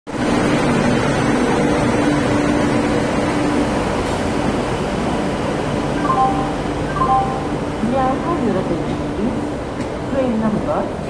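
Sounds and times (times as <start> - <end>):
locomotive machinery hum: 0.2 - 10.1.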